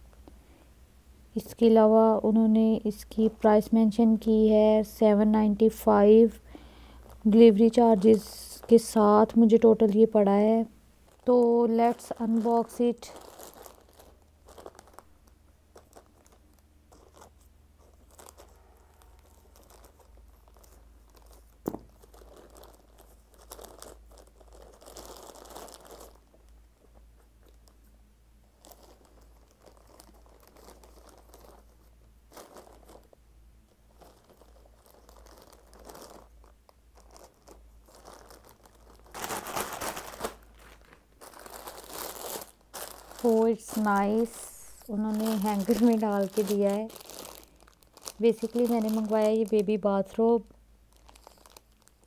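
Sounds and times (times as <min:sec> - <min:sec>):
plastic crinkling: 0:02.9 - 0:52.0.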